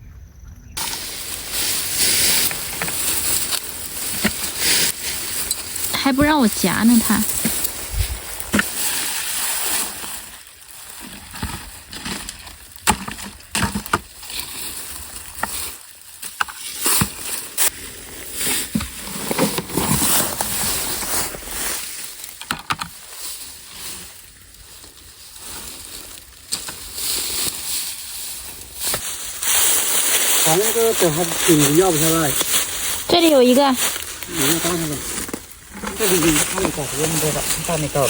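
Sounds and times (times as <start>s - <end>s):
rustling with clicks and snaps: 0.8s - 38.0s.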